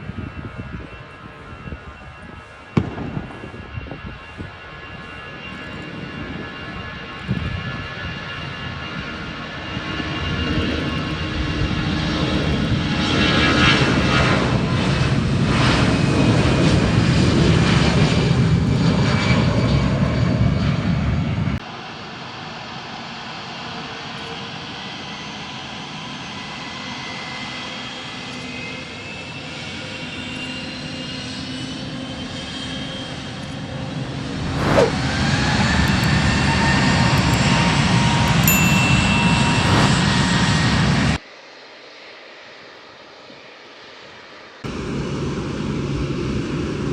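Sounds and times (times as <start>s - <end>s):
jet engine roar: 0.0s - 46.9s
jet engine whine: 0.0s - 46.9s.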